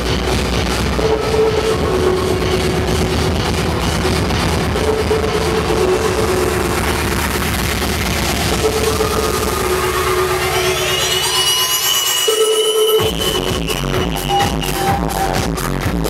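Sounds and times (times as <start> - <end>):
music with a dense beat: 0.0 - 16.0.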